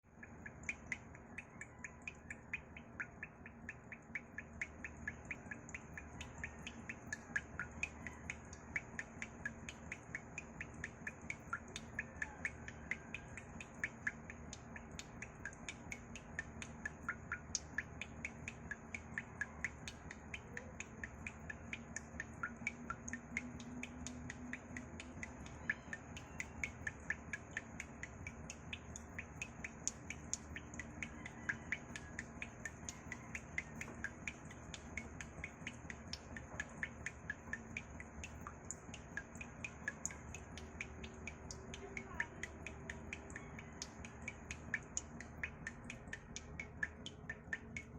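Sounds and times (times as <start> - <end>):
water droplets dripping: 0.0 - 47.9.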